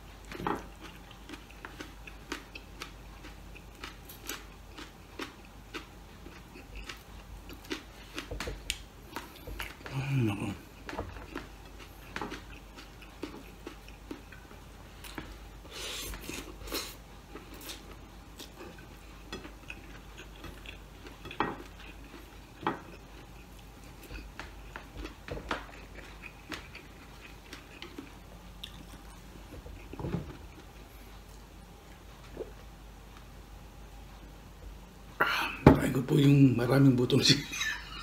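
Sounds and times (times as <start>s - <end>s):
chewing: 0.0s - 32.7s.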